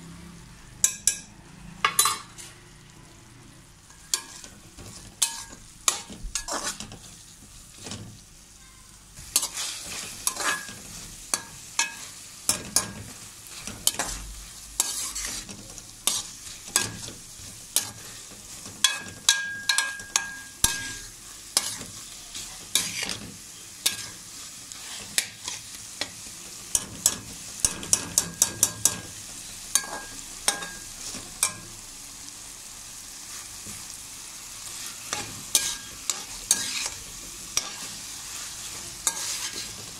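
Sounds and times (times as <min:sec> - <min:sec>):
vegetables sizzling: 0:00.0 - 0:39.9
metal spatula scraping a wok: 0:01.8 - 0:02.7, 0:03.8 - 0:31.6, 0:34.6 - 0:39.9.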